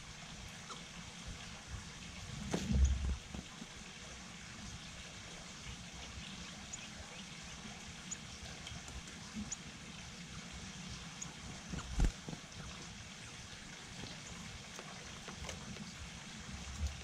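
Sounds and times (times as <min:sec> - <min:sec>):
light rain dripping: 0:00.0 - 0:17.0.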